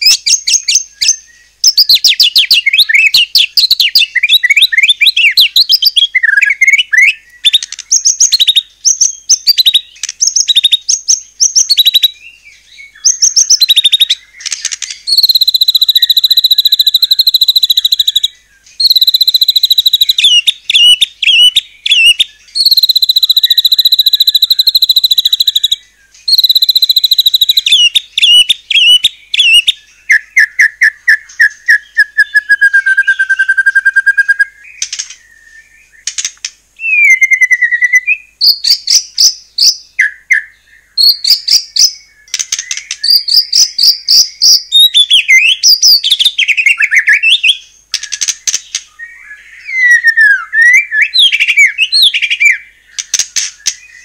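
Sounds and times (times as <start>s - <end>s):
bird singing trills and whistles: 0.0s - 54.0s.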